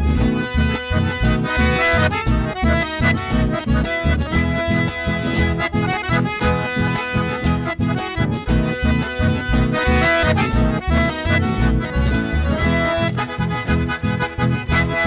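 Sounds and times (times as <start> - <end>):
piano accordion chords: 0.0 - 15.0
pulsing electric bass line: 0.0 - 15.0.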